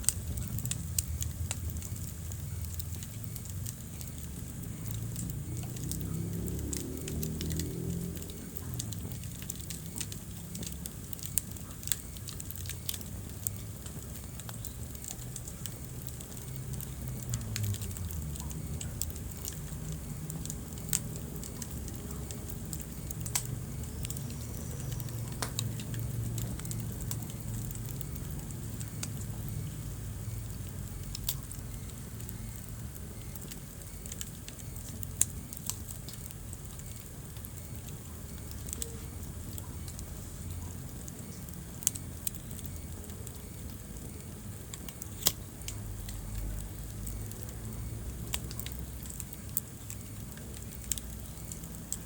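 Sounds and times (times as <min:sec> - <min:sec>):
sharp pops from burning logs: 0:00.0 - 0:52.0
wood fire crackling: 0:00.0 - 0:52.0.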